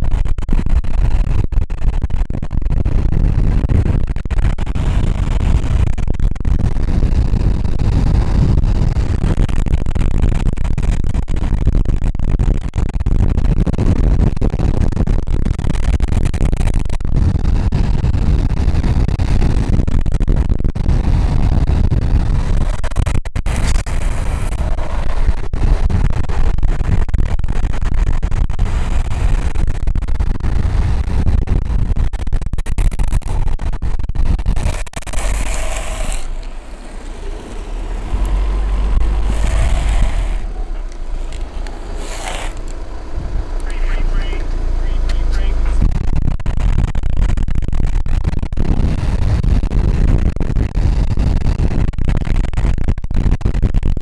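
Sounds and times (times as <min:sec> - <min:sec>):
wind buffeting microphone: 0:00.0 - 0:44.9
skateboard wheels rolling on asphalt: 0:00.0 - 0:54.0.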